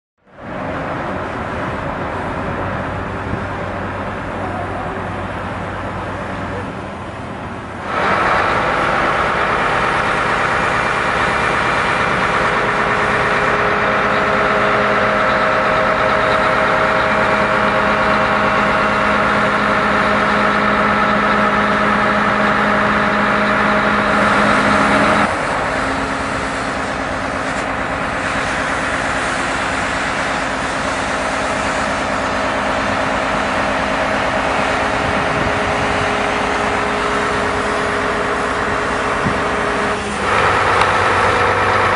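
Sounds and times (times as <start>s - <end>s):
suction excavator humming: 0.2s - 41.9s.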